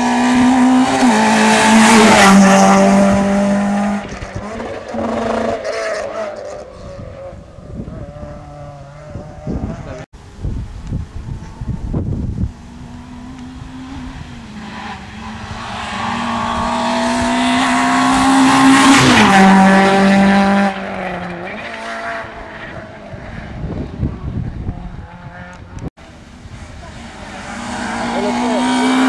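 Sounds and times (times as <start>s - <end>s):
rally car engine passing at high revs: 0.0s - 10.1s, 11.2s - 29.0s.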